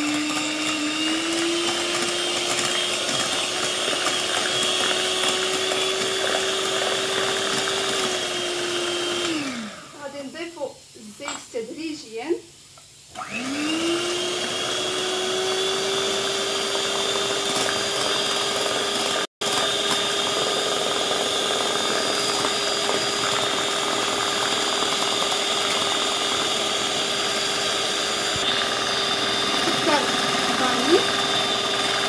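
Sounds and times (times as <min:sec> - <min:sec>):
electric hand mixer whisking: 0:00.0 - 0:10.6, 0:13.1 - 0:32.0.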